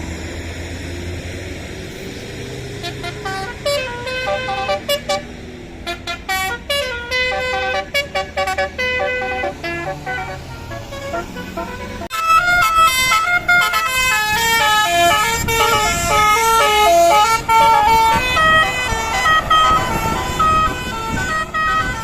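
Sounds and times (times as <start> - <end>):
multi-tone air horn melody: 2.8 - 22.0.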